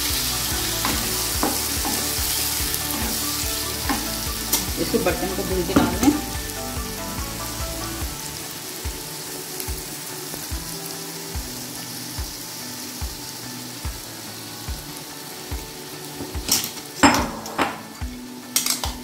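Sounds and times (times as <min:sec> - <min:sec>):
chicken sizzling in frying pan: 0:00.0 - 0:19.0.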